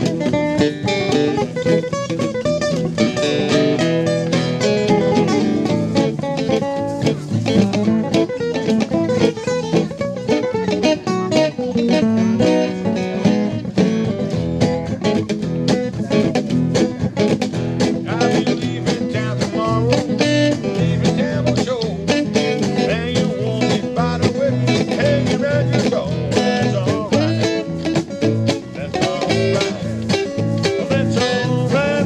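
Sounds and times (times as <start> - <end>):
guitar picked notes: 0.0 - 32.0.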